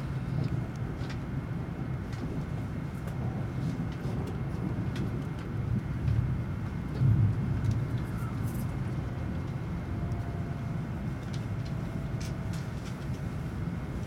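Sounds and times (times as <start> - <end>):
train cabin low rumble: 0.0 - 14.0.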